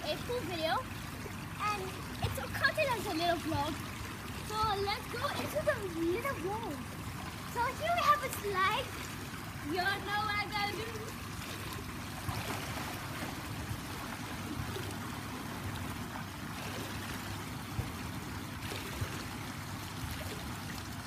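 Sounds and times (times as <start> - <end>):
water pouring into pool: 0.0 - 21.0.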